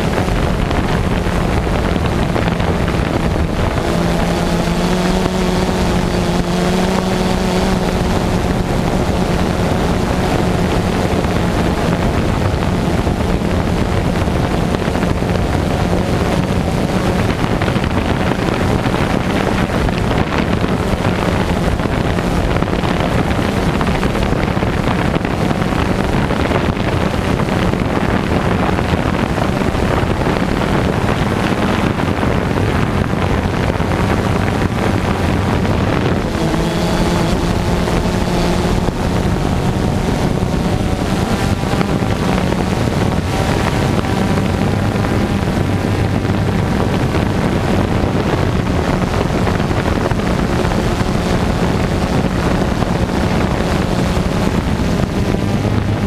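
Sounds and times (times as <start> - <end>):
low motor hum: 0.0 - 56.0
wind noise on microphone: 0.0 - 56.0.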